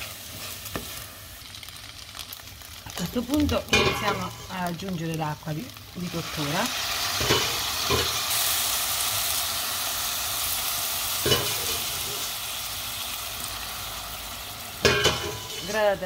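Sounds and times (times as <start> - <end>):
rice and spinach sizzling in pan: 0.0 - 16.0.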